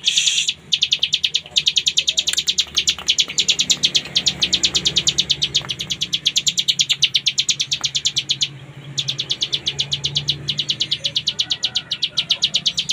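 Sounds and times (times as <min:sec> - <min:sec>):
bird singing rattling high notes: 0:00.0 - 0:12.9.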